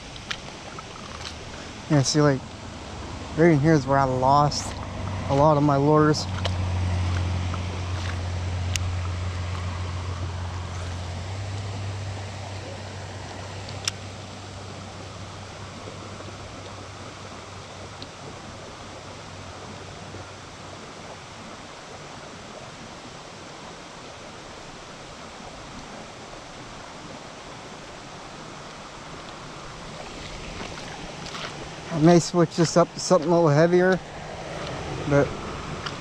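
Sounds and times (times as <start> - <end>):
creek water over rocks: 0.0 - 36.0
low hum: 0.0 - 36.0.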